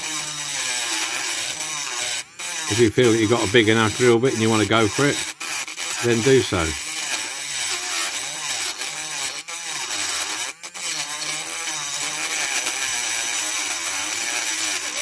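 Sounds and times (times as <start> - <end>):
burr grinding metal: 0.0 - 15.0
rotary tool motor whine: 0.0 - 15.0.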